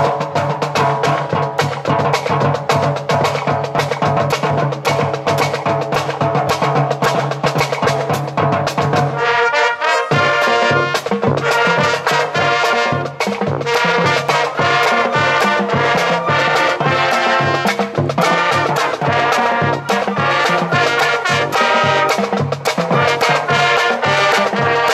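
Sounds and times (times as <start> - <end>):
upbeat brass and drums music: 0.0 - 24.9.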